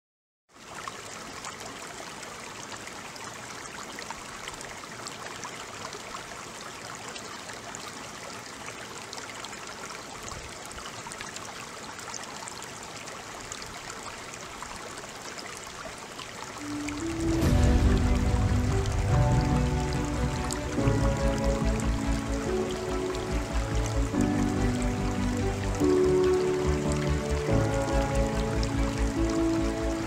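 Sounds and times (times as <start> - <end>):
waterfall rushing over rocks: 1.0 - 30.0.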